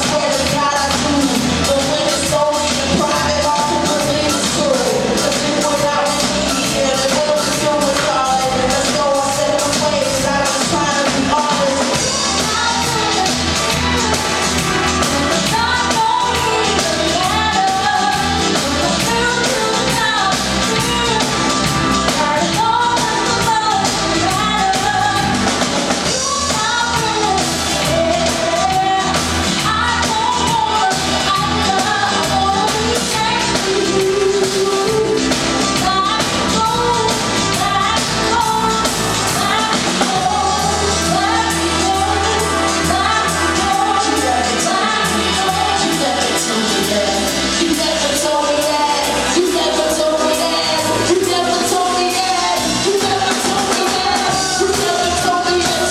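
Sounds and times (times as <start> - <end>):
lead singer singing: 0.0 - 55.9
live band playing: 0.0 - 55.9.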